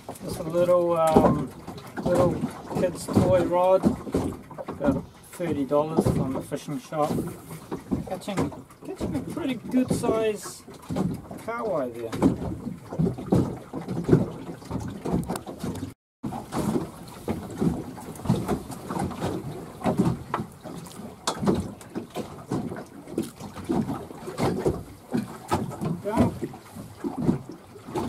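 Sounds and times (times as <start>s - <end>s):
water slapping boat hull: 0.0s - 28.0s.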